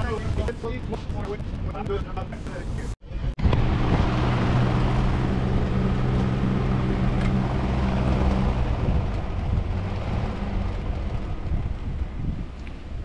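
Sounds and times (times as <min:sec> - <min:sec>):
engine running steadily: 0:02.5 - 0:13.0.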